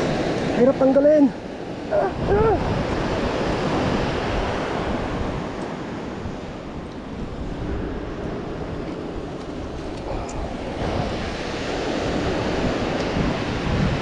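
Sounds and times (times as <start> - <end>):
waves washing against rocky shore: 0.0 - 14.0
wind on microphone: 1.6 - 14.0.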